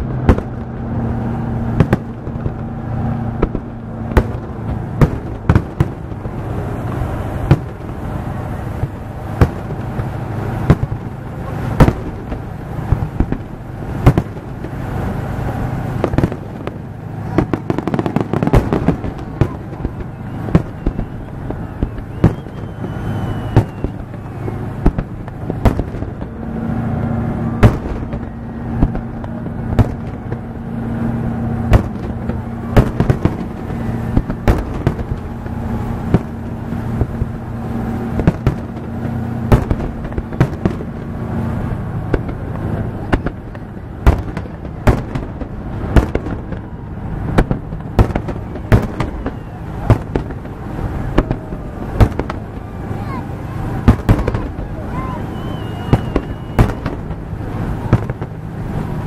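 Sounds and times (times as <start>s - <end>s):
continuous background rumble: 0.0s - 59.0s
fireworks bursting with sharp bangs: 0.0s - 59.0s.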